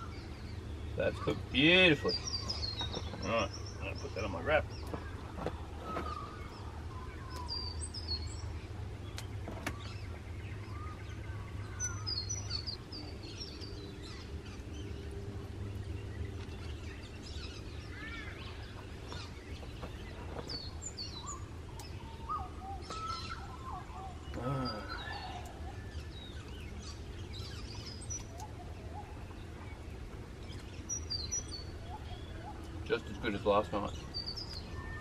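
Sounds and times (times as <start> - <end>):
birds chirping: 0.0 - 35.0
low background rumble: 0.0 - 35.0
lower bird calls: 0.0 - 35.0.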